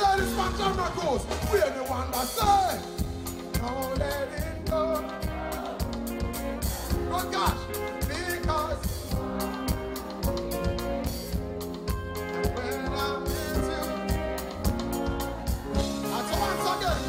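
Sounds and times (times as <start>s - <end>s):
bass guitar: 0.0s - 17.0s
drum kit: 0.0s - 17.0s
keyboards: 0.0s - 17.0s.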